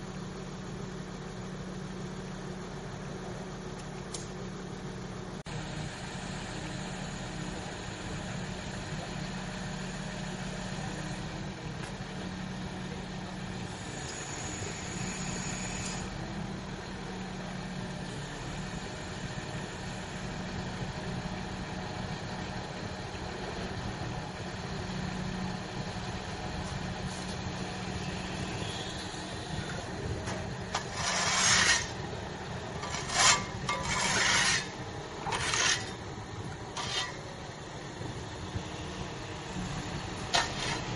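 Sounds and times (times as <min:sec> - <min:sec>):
crane engine droning: 0:00.0 - 0:40.9.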